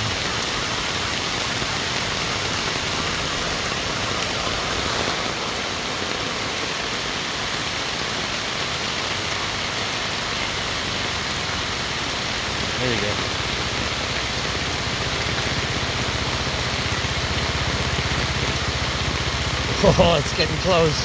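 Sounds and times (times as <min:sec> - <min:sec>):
floodwater rushing: 0:00.0 - 0:21.0
heavy rain falling: 0:00.0 - 0:21.0.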